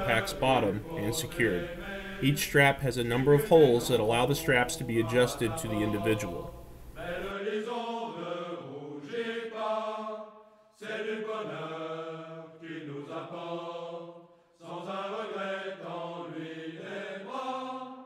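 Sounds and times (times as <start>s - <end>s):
slow chant-like singing: 0.0s - 18.0s.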